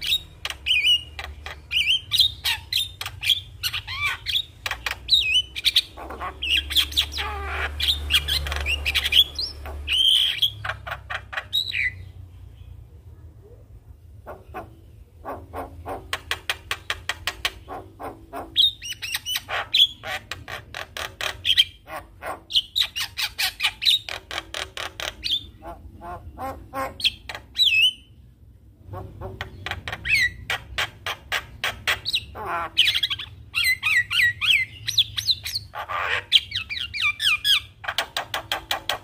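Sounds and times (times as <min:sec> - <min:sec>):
bird singing and chattering: 0:00.0 - 0:12.8, 0:14.2 - 0:28.2, 0:28.9 - 0:39.0.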